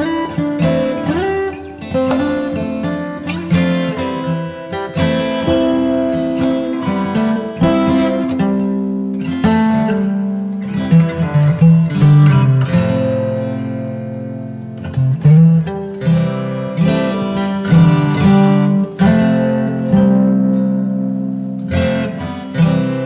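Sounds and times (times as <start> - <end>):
acoustic guitar plucking: 0.0 - 23.0.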